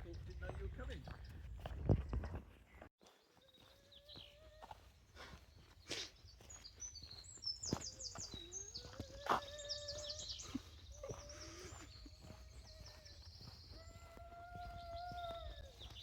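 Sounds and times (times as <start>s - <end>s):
small birds singing: 0.0s - 16.0s.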